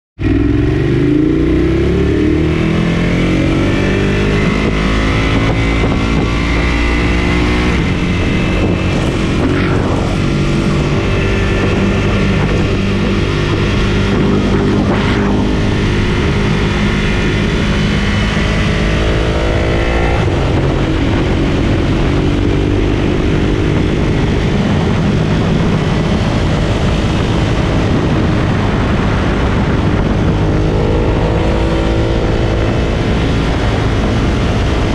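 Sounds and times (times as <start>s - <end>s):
motorcycle engine accelerating: 0.2s - 34.9s
rushing noise: 0.2s - 34.9s.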